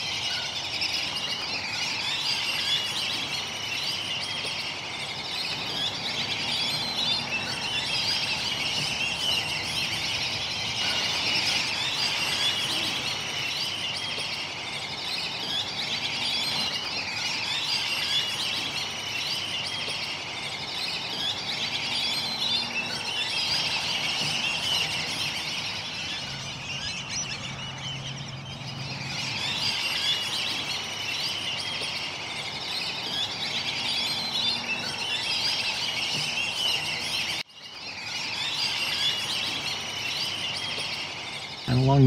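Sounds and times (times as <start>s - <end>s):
chorus of birds calling: 0.0s - 42.0s.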